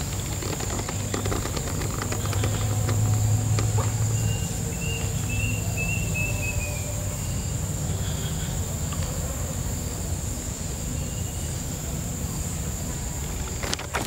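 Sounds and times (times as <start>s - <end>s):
high-pitched insect drone: 0.0s - 14.0s
insect chirps: 0.0s - 14.0s.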